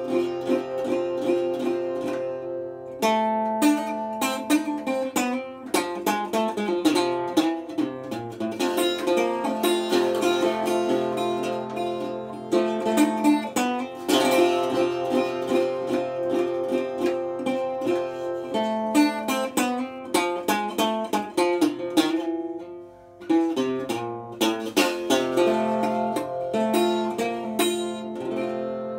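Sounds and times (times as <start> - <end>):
resonator guitar blues: 0.0 - 28.9.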